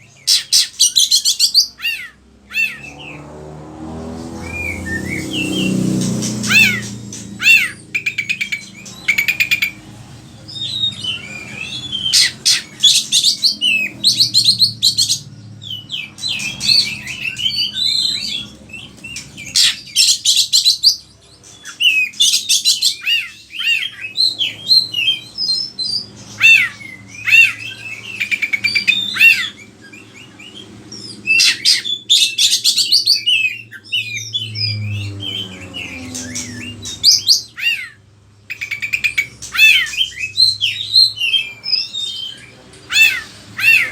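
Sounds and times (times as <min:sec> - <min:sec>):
songbird whistling and trilling: 0:00.0 - 0:03.2, 0:04.4 - 0:09.8, 0:10.4 - 0:43.9.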